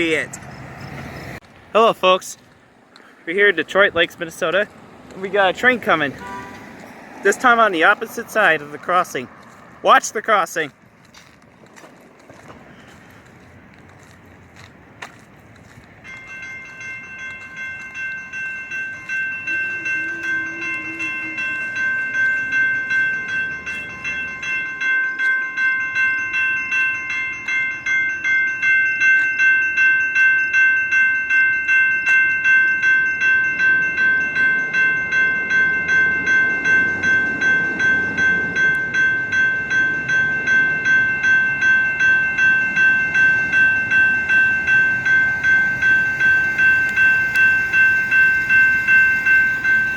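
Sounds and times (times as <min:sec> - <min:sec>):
railroad crossing bell ringing: 0:00.0 - 0:01.0, 0:01.8 - 0:11.4, 0:12.7 - 0:49.9.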